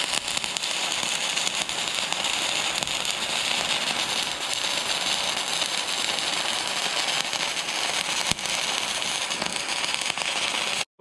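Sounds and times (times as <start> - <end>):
welding arc crackling hiss: 0.0 - 10.9.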